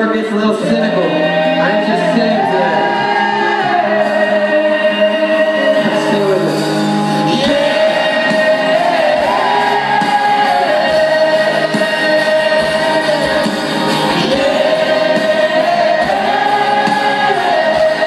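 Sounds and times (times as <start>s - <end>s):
man singing long notes: 0.0s - 18.0s
pop-rock band playing live: 0.0s - 18.0s.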